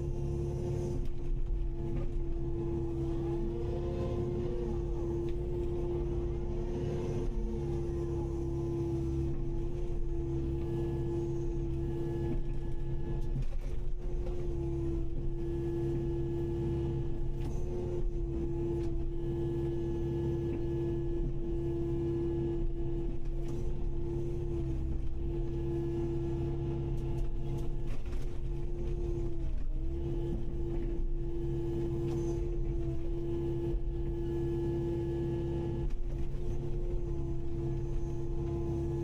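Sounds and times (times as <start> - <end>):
excavator diesel engine with whine: 0.0 - 39.0.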